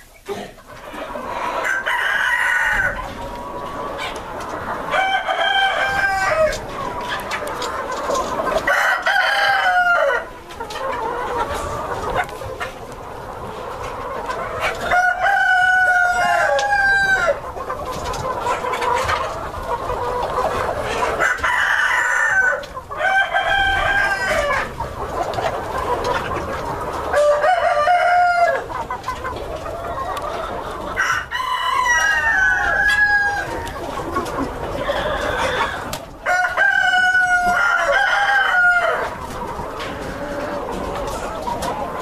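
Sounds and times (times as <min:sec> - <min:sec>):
chickens clucking: 0:00.0 - 0:42.0
roosters crowing: 0:01.0 - 0:12.4, 0:13.8 - 0:28.8, 0:29.7 - 0:42.0.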